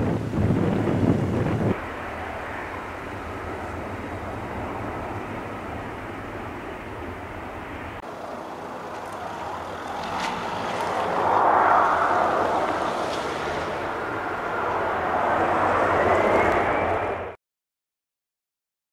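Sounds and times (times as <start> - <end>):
jet engines rumble and hiss: 0.0 - 17.4
faint rising whine: 1.6 - 17.4.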